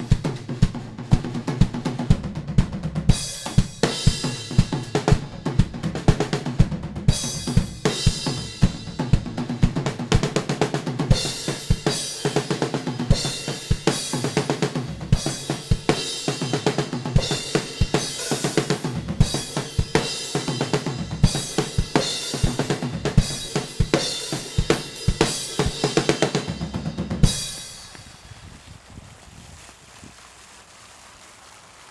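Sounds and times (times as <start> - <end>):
drum kit playing fast rhythm: 0.0 - 27.9.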